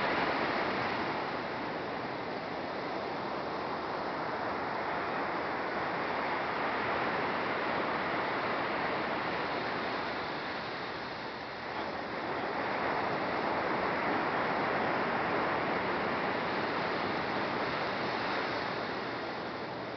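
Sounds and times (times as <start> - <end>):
waves breaking on a beach: 0.0 - 19.9.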